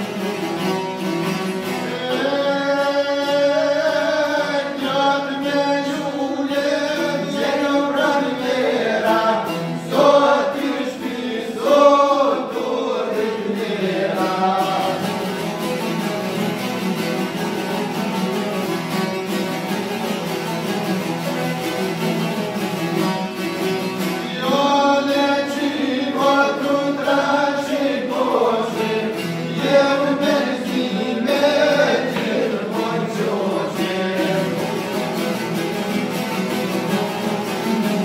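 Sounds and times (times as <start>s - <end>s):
folk singing: 0.0s - 20.7s, 21.3s - 38.0s
plucked lutes: 0.0s - 38.0s.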